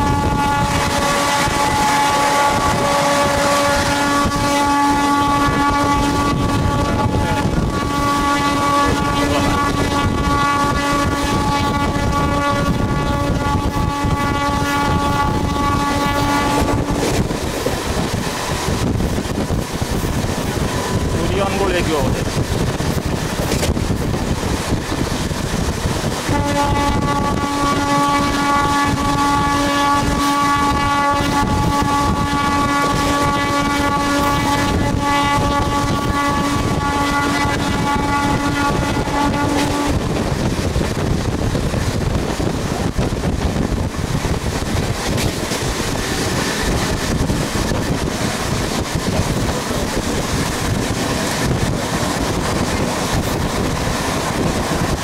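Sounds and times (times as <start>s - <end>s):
train horn long note: 0.0s - 19.3s, 26.1s - 55.0s
moving passenger train: 0.0s - 55.0s
wind buffeting the microphone: 0.0s - 55.0s.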